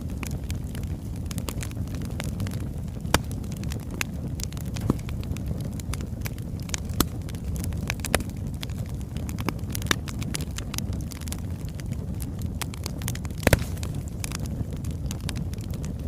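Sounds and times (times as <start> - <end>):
steady low rumble: 0.0 - 16.0
wood fire crackling: 0.0 - 16.0.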